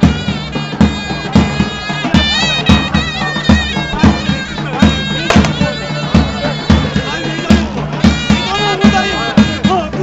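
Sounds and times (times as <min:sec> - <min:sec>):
heavy drum beats: 0:00.0 - 0:10.0
shrill reed pipe melody: 0:00.0 - 0:10.0.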